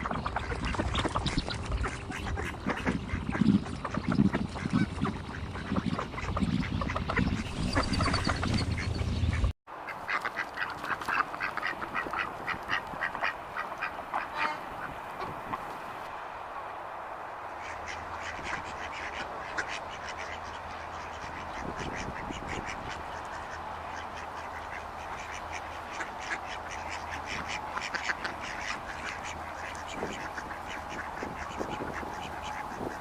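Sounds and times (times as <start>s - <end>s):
steady low hum: 0.0s - 9.5s, 10.6s - 33.0s
ducks quacking: 0.0s - 16.1s, 17.5s - 33.0s.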